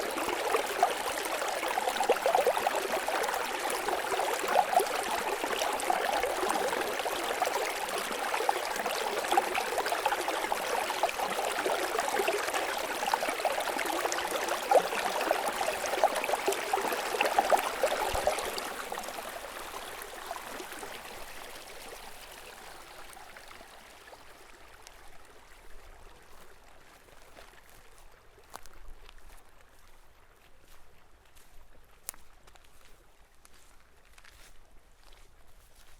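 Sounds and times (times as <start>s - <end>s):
stream trickling over rocks: 0.0s - 35.9s.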